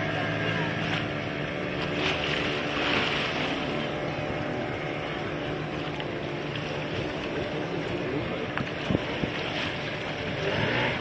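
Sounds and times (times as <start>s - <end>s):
motorboat engine running: 0.0s - 11.0s
water rushing along hull: 0.0s - 11.0s
wind on microphone: 1.9s - 11.0s.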